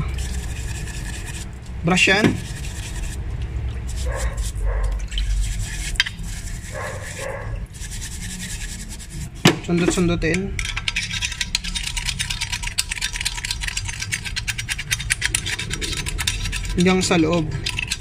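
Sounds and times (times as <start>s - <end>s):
brush scrubbing a pipe: 0.0s - 10.1s, 10.8s - 18.0s.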